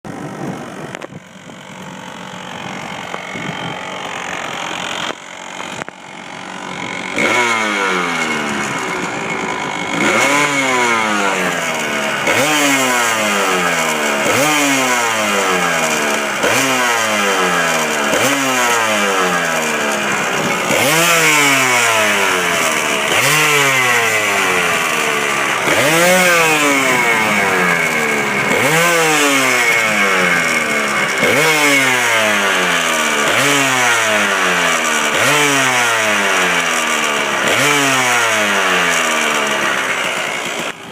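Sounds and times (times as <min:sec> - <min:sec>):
motorcycle engine revving: 0:00.1 - 0:40.9.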